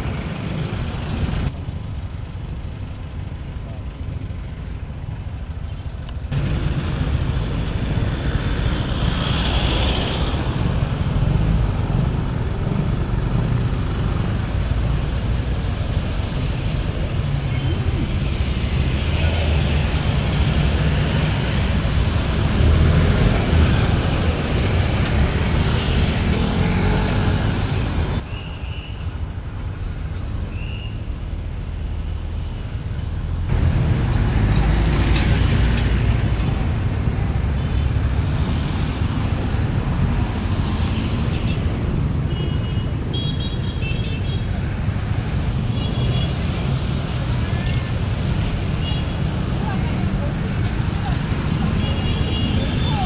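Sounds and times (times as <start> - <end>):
passing cars: 0.0 - 53.0.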